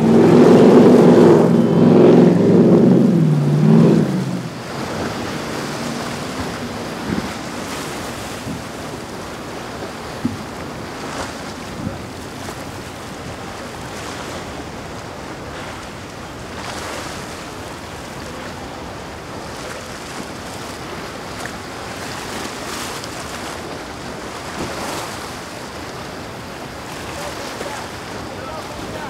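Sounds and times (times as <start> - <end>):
waves breaking: 0.0 - 29.0
wind buffeting microphone: 0.0 - 29.0.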